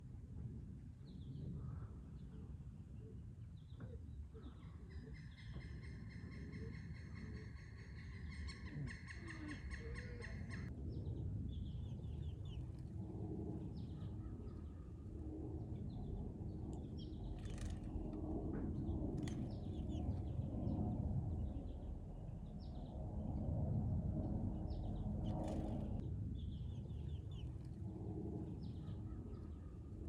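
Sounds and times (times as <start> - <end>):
constant low rumble: 0.0 - 30.0.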